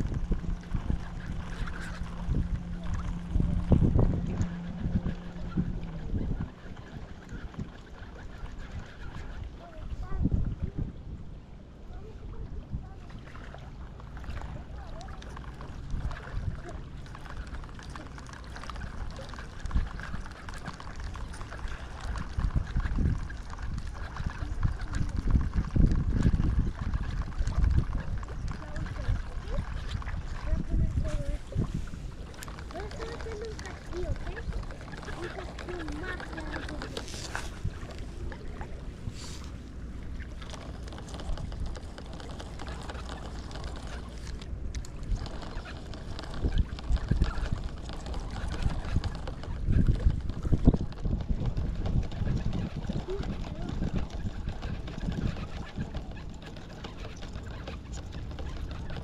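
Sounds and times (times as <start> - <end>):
small waves lapping: 0.0 - 59.0
wind on microphone: 0.0 - 59.0.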